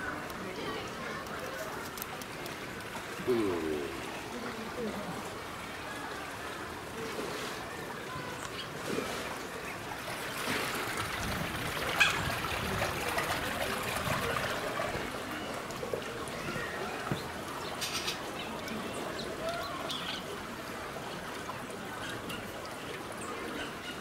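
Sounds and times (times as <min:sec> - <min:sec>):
water trickling: 0:00.0 - 0:24.0.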